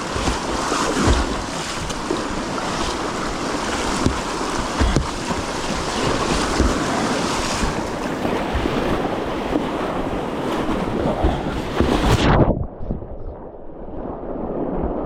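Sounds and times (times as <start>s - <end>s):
rapids rushing: 0.0s - 12.2s
wind buffeting microphone: 0.0s - 15.0s.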